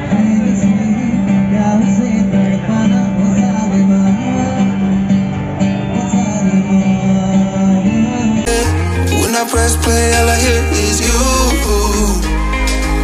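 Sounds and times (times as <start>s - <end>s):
acoustic guitar: 0.0s - 13.0s
man singing into a microphone: 0.0s - 13.0s.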